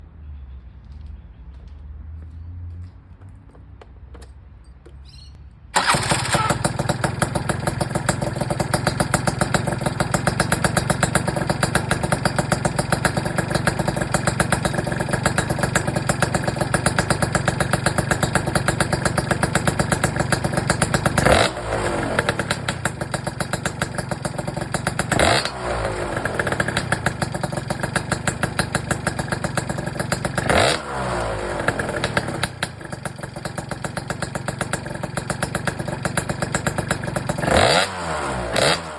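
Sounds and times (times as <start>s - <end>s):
scooter engine idling and revving: 5.8s - 38.9s.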